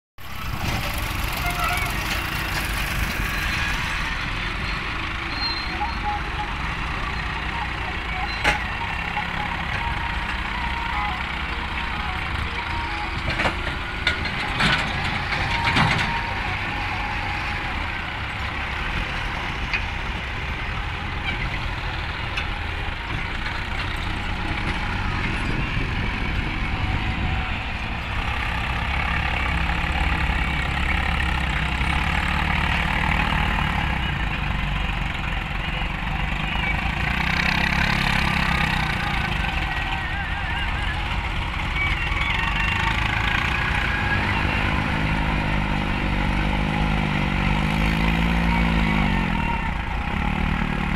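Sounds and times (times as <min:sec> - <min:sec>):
tractor diesel engines running: 0:00.2 - 0:50.9.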